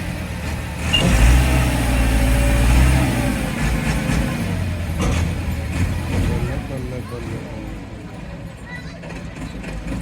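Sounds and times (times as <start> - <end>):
diesel tractor engine under load: 0.0 - 10.0.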